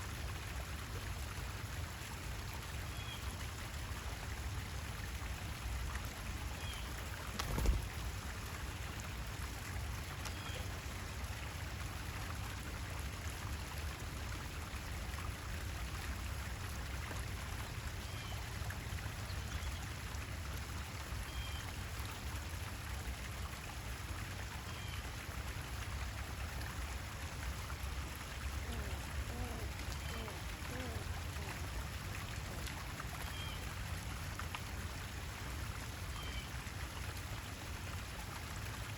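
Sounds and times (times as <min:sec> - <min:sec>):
running trickling water: 0:00.0 - 0:38.9.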